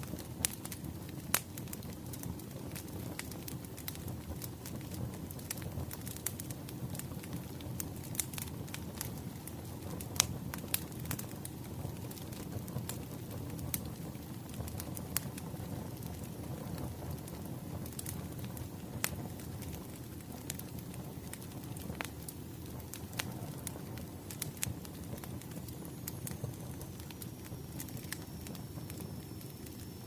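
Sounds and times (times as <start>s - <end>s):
firewood crackling and popping: 0.0s - 30.0s
low rush of flames: 0.0s - 30.0s.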